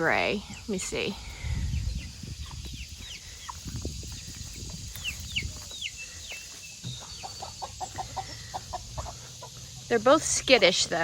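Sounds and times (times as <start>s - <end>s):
chickens peeping: 0.0s - 11.0s.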